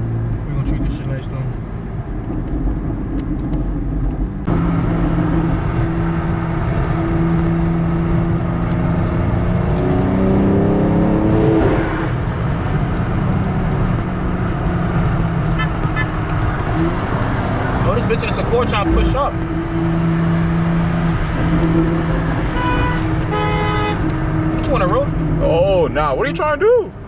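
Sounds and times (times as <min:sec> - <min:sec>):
car engine accelerating: 0:00.0 - 0:27.0
road noise: 0:00.0 - 0:27.0.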